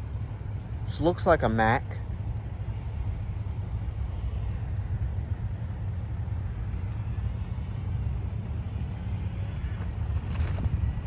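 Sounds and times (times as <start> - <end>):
freight train rumbling on track: 0.0 - 11.0.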